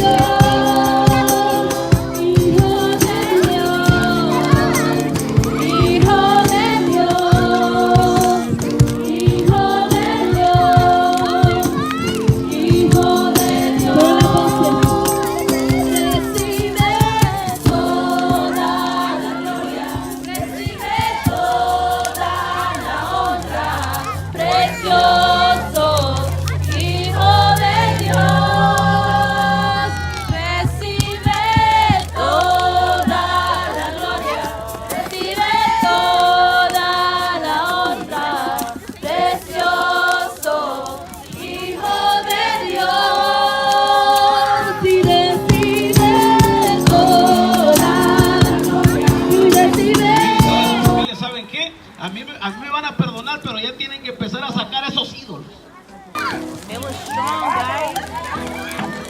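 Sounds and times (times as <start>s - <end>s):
group singing worship song: 0.0s - 51.1s
rhythmic beat: 0.0s - 51.1s.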